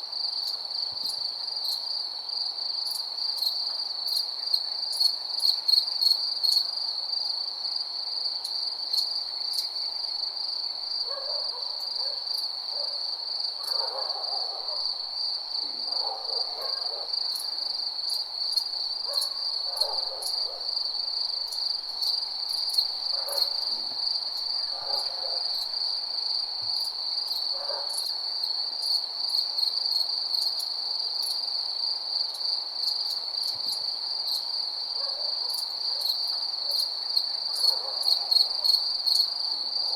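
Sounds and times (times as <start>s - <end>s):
night insects trilling: 0.1s - 39.9s.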